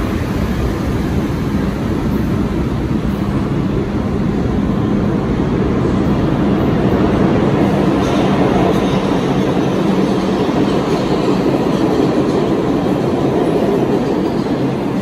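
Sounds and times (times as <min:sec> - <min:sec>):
subway train wheels rumbling: 0:00.0 - 0:15.0.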